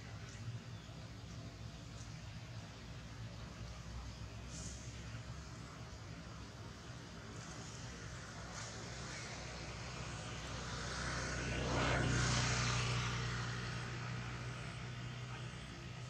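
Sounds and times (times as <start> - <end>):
passing engine drone: 2.8 - 16.0.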